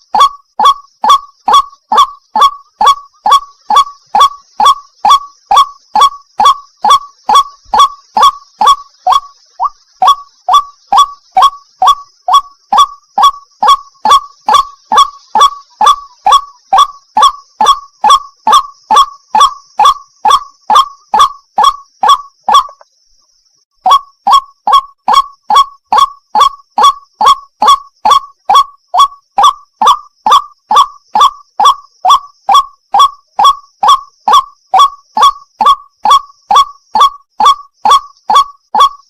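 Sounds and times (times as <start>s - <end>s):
waterhen calling: 0.0s - 22.9s, 23.8s - 39.0s.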